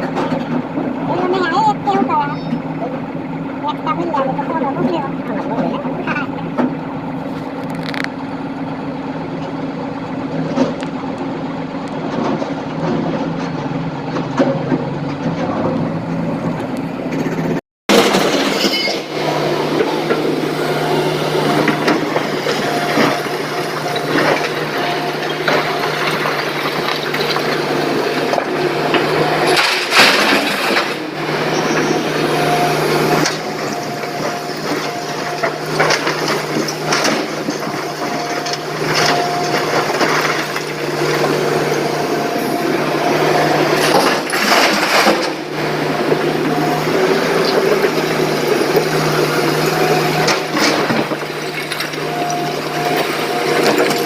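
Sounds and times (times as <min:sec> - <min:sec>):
excavator diesel engine: 0:00.0 - 0:54.0
hydraulic whine: 0:00.0 - 0:54.0.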